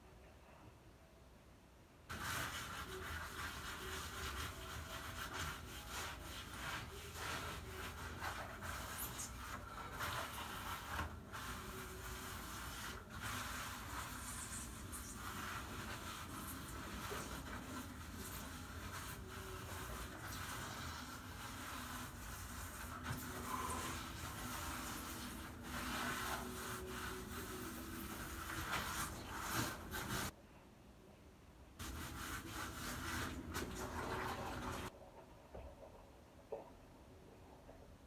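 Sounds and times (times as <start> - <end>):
grout scraping on tiles: 2.1 - 30.3, 31.8 - 34.9.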